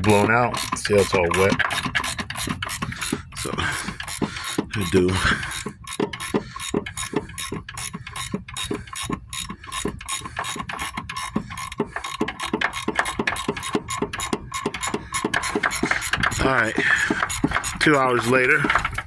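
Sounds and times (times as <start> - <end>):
ratcheting wrench clicking: 0.0 - 19.0.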